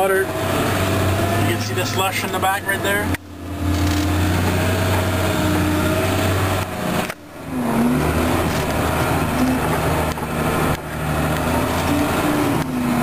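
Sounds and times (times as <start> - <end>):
groomer engine running under load: 0.0 - 13.0.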